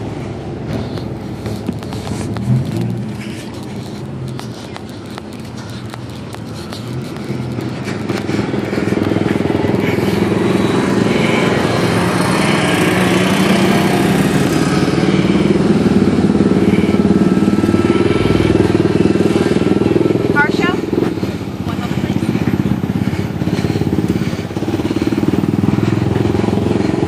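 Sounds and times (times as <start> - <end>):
car engines rolling past: 0.0 - 27.0.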